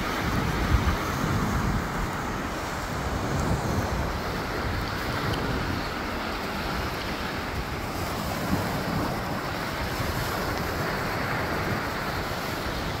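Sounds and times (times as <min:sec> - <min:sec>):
small waves washing on sand: 0:00.0 - 0:13.0
wind rumbling on microphone: 0:00.0 - 0:13.0.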